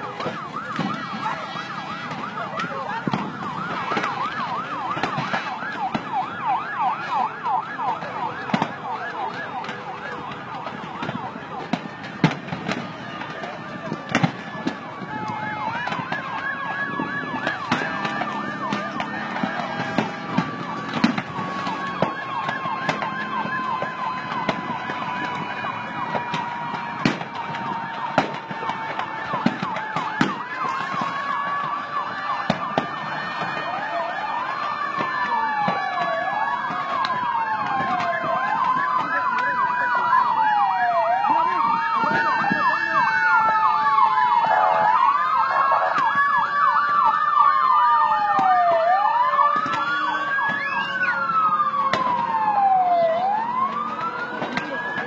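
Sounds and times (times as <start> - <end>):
emergency vehicle sirens: 0.0 - 55.0.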